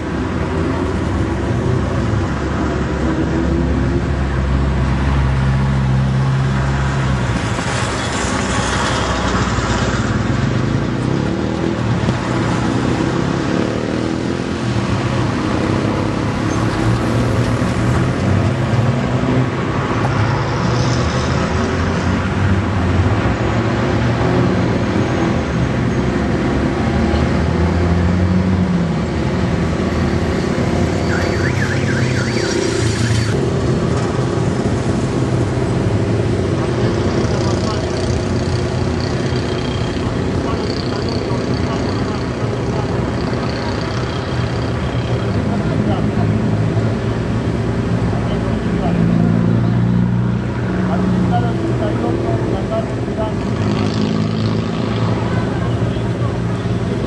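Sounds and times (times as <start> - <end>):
engines rumbling: 0.0 - 57.0.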